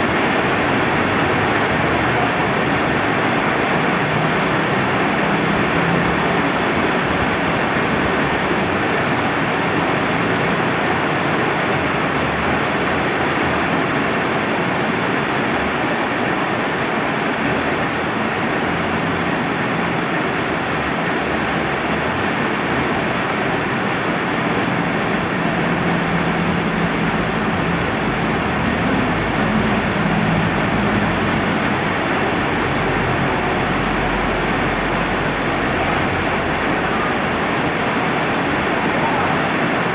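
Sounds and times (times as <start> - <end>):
river flowing: 0.0 - 39.9
steady rain falling: 0.0 - 39.9.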